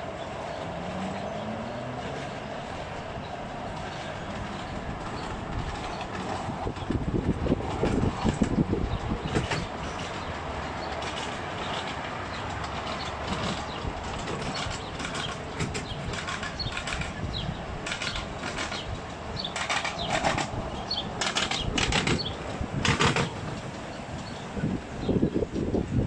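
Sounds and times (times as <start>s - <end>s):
train wheels rumbling on rail: 0.0s - 26.0s
wheels clacking over rail joints: 0.0s - 26.0s.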